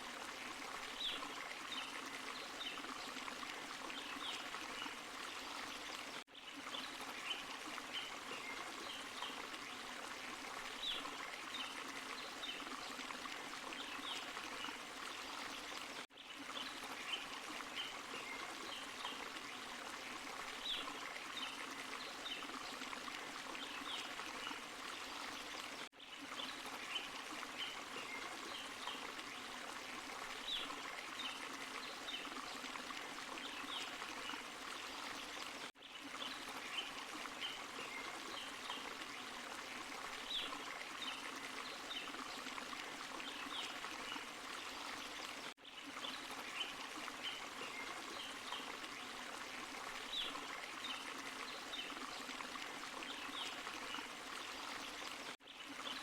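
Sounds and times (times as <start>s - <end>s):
stream and small waterfall: 0.0s - 56.0s.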